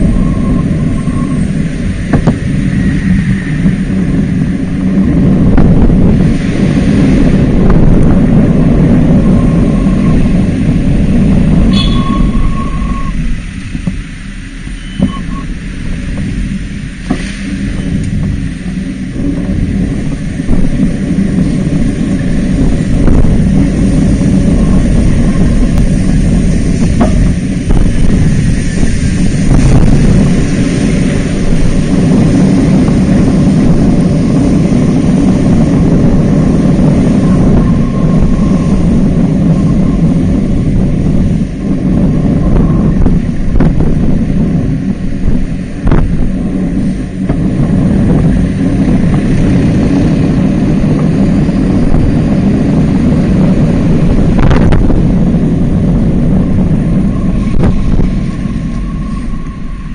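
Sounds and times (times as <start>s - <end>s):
traffic engines rumbling: 0.0s - 59.9s.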